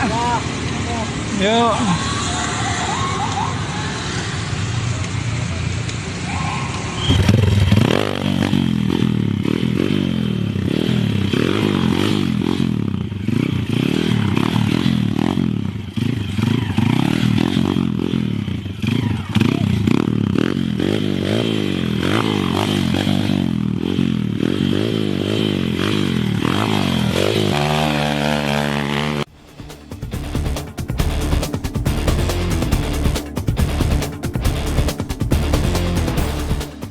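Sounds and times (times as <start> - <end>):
motorcycle engine revving: 0.0 - 2.6, 3.9 - 36.9.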